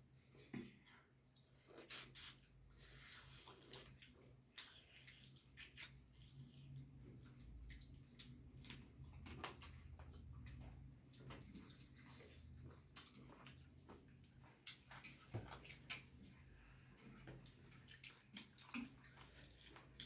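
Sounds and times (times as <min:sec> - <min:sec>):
wet mouth chewing noises: 0:00.8 - 0:20.0.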